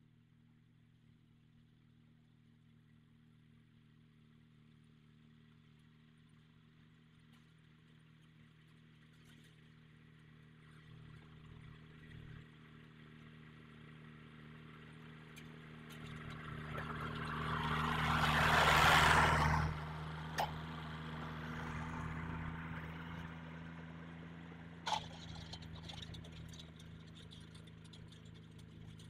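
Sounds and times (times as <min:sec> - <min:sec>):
tractor engine running: 0:05.3 - 0:29.0.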